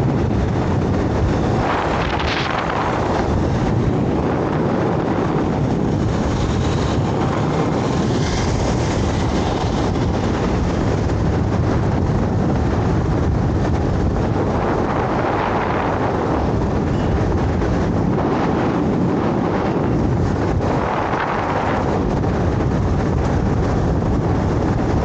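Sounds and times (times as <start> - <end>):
scooter road noise: 0.0 - 25.0
wind buffeting microphone: 0.0 - 25.0
wind rush: 0.0 - 25.0.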